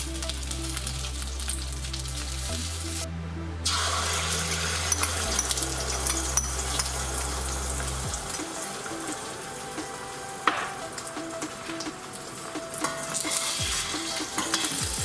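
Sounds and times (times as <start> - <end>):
background music with bass: 0.0 - 15.0.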